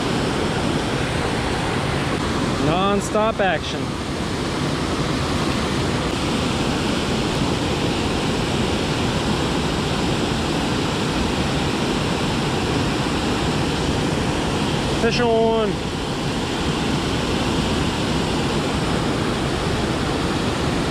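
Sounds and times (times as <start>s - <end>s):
water rushing over dam: 0.0s - 20.9s.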